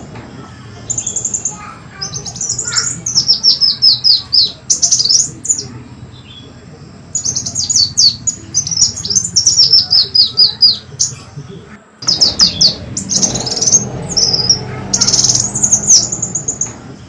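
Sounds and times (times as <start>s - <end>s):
bird chirping and trilling: 0.0s - 11.3s, 12.0s - 17.0s.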